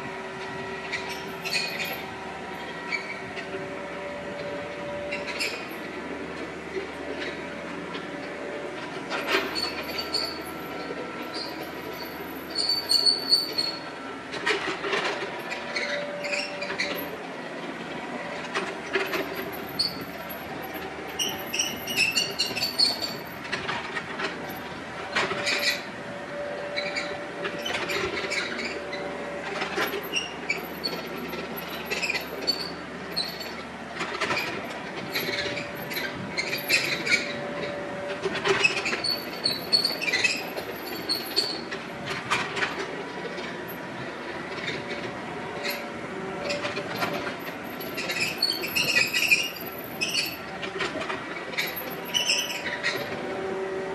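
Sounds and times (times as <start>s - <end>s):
diesel engine running under load: 0.0s - 53.9s
hydraulic whine: 0.0s - 53.9s
steel tracks clanking and squeaking: 0.0s - 53.9s.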